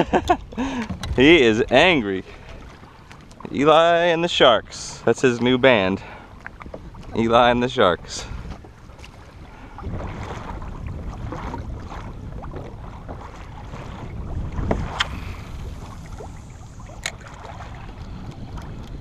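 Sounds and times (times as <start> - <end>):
wind buffeting microphone: 0.0 - 3.7, 4.3 - 19.0
water sloshing against hull: 0.0 - 19.0.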